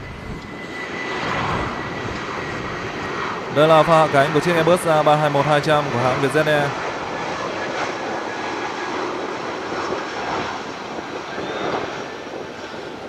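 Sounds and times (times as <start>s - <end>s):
faint high engine whine: 0.0s - 13.0s
jet engines rushing: 0.0s - 13.0s.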